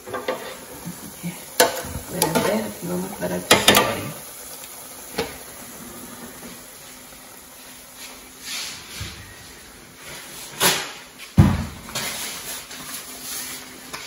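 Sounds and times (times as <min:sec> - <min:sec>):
oil sizzling in a fryer: 0:00.0 - 0:14.0.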